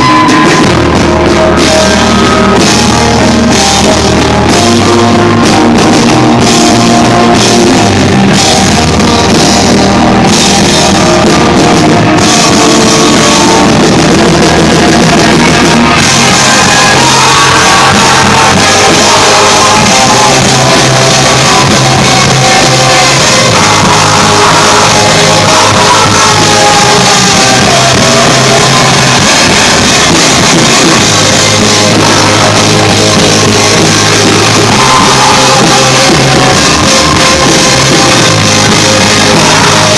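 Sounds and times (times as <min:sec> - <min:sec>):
rock band playing loud: 0:00.0 - 0:39.9
sung and shouted vocals: 0:00.0 - 0:39.9.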